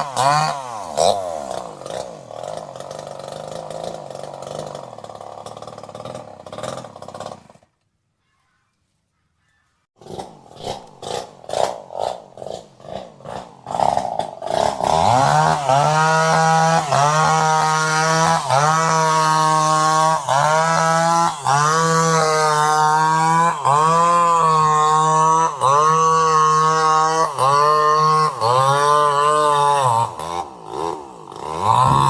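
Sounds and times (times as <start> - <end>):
chainsaw engine sputtering and revving: 0.0 - 7.8, 10.0 - 32.0.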